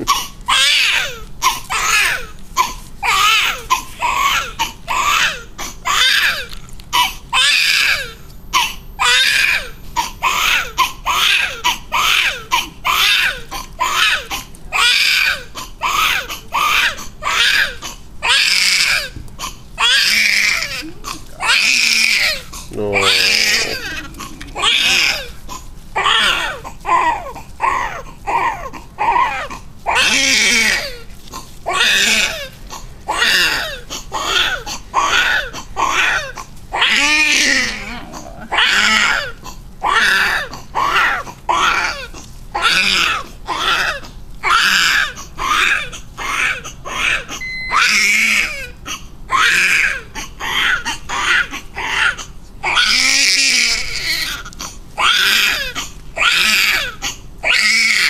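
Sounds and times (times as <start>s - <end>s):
newborn baby crying: 0.0s - 31.1s, 31.7s - 58.0s.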